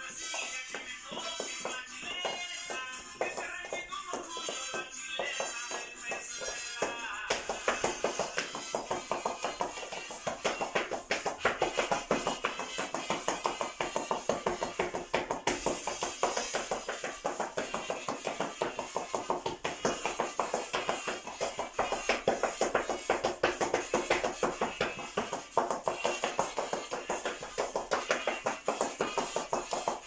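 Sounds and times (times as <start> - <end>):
folk dance music: 0.0 - 30.0
shoes tapping on tile floor: 0.0 - 30.0.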